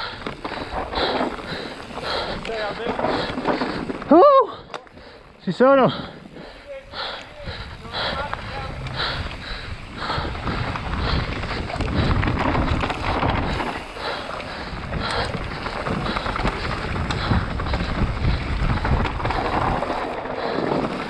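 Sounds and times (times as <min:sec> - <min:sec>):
bike knocks and rattles: 0:00.0 - 0:04.2, 0:08.2 - 0:21.0
tyres rumbling on dirt: 0:00.0 - 0:21.0
wind buffeting microphone: 0:00.0 - 0:21.0.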